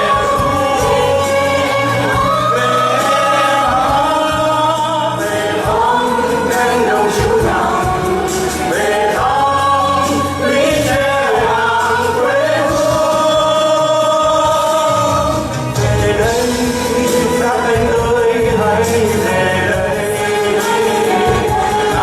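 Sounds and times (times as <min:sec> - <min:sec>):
choir singing long notes: 0:00.0 - 0:22.0
instrumental accompaniment: 0:00.0 - 0:22.0.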